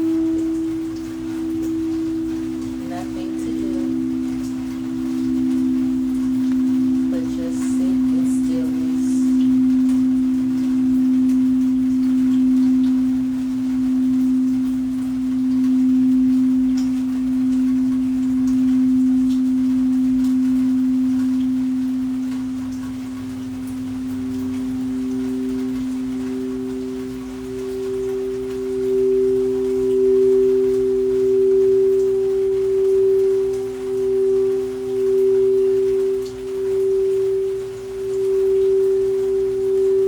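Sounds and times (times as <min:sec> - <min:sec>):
singing bowls humming: 0:00.0 - 0:40.0.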